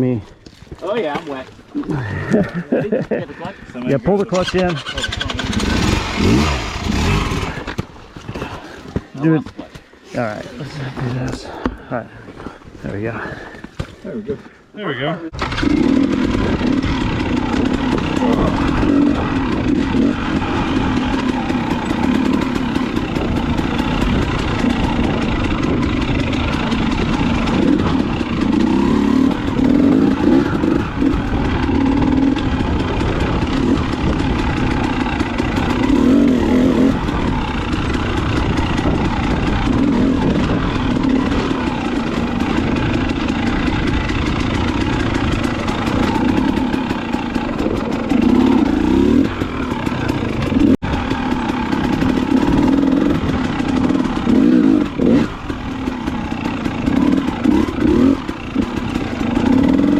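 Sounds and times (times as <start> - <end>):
dirt bike engine revving: 4.2 - 7.8, 15.4 - 59.9.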